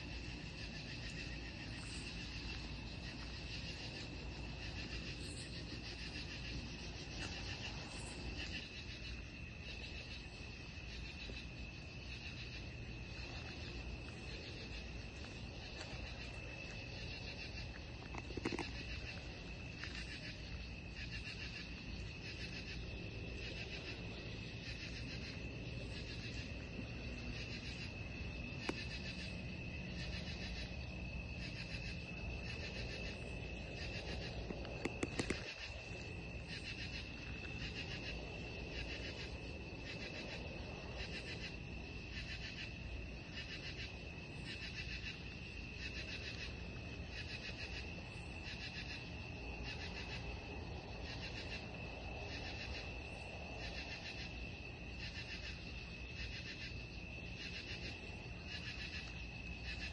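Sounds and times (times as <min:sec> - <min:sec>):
insect high trill: 0:00.0 - 0:59.9
pulsing insect call: 0:00.0 - 0:59.9.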